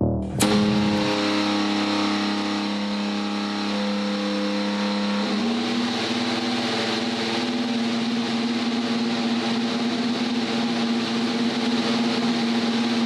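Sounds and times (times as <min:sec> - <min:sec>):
racing engine running: 0:00.0 - 0:13.0.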